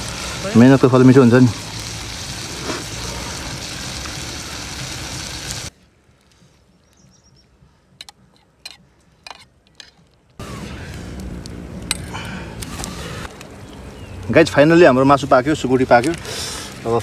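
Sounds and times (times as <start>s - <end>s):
steady rushing hiss: 0.0s - 9.1s, 10.1s - 17.0s.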